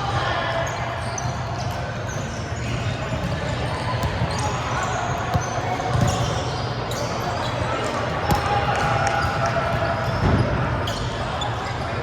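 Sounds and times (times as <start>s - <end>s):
murmur of distant voices: 0.0s - 12.0s.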